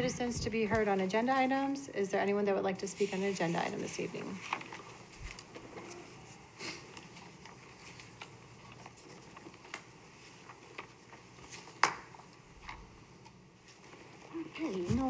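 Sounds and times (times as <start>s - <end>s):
faint clicks and rustles: 0.0s - 15.0s.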